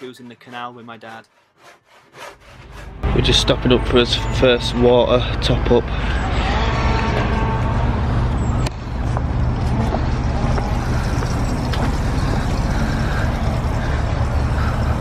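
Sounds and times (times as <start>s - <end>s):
engine idling: 2.8s - 15.0s.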